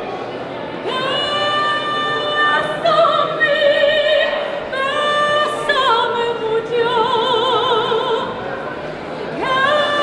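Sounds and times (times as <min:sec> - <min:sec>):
woman singing operatically: 0:00.8 - 0:08.4, 0:09.4 - 0:10.0.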